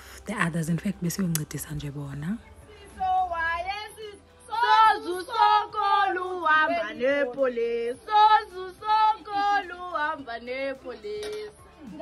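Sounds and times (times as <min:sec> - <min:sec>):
women singing: 0:00.4 - 0:12.0.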